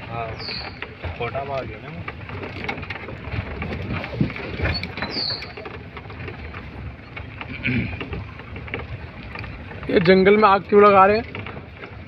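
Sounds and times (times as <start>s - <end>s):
jeep engine rumbling: 0.0s - 12.0s
knocks and rattles from bumps: 0.0s - 12.0s.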